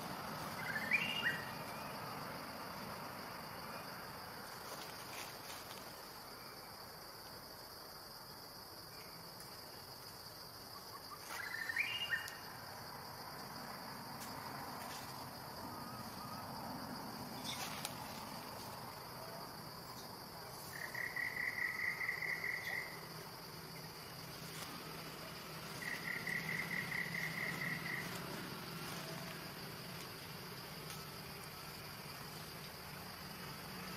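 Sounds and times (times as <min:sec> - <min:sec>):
insects droning: 0:00.0 - 0:33.9
rapid pulsed insect trills: 0:00.0 - 0:33.9.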